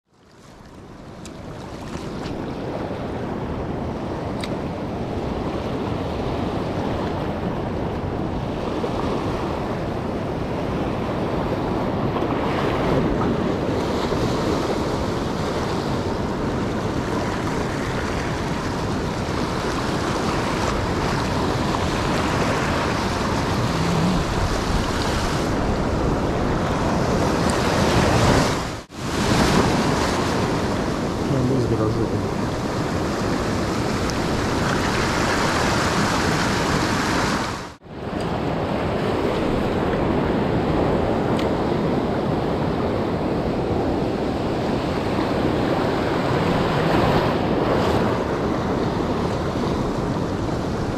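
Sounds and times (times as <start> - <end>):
surf washing over rocks: 0.3 - 50.9.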